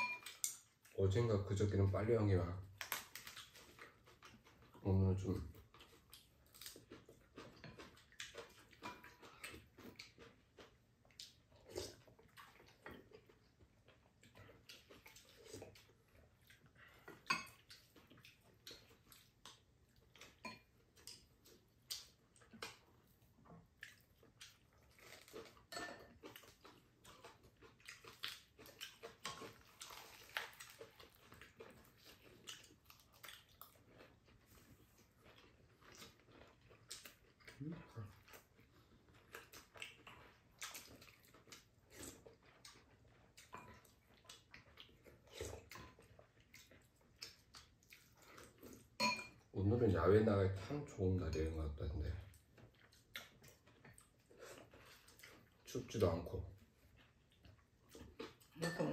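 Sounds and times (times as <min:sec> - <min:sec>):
soft chewing: 0:00.0 - 0:58.9.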